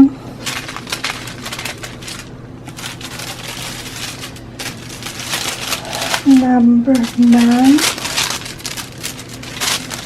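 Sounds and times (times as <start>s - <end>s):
paper crinkles and taps: 0.4s - 10.0s
paper pieces rustling: 0.4s - 10.0s.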